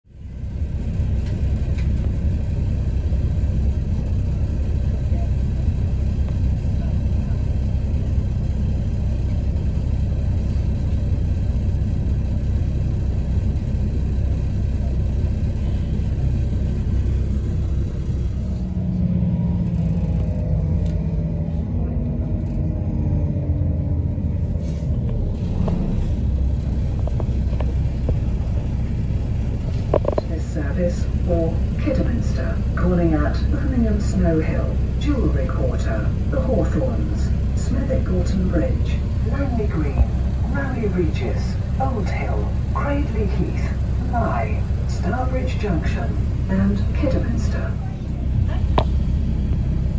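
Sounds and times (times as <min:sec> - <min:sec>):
diesel engine: 0:00.0 - 0:49.9
train wheels rumbling on track: 0:00.0 - 0:49.9.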